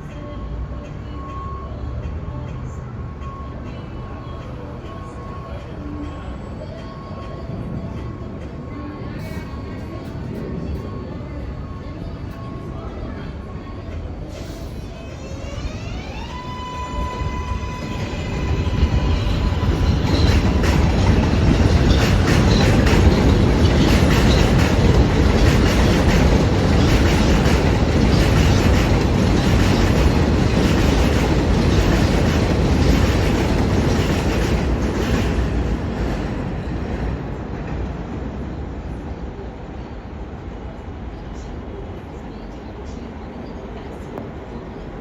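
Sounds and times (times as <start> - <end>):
train rumble and wheel clatter: 0.0 - 45.0.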